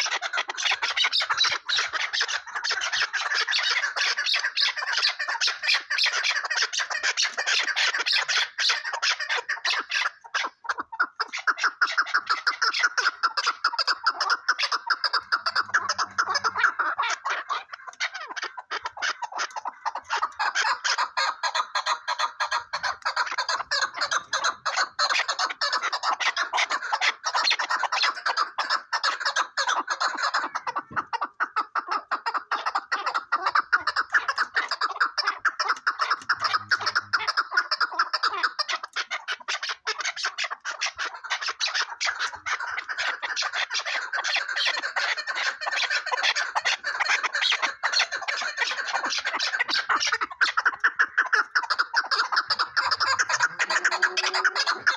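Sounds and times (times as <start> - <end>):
partridges calling: 0.0 - 54.9.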